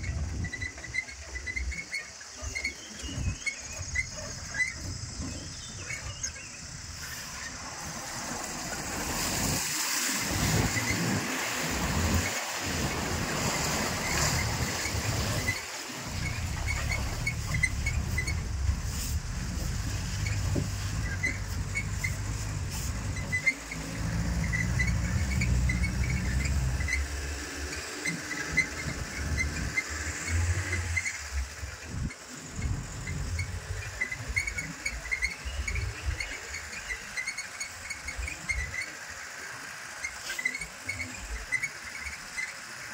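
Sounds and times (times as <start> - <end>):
short high squeaks: 0.0 - 42.9
vehicle engine: 0.0 - 42.9.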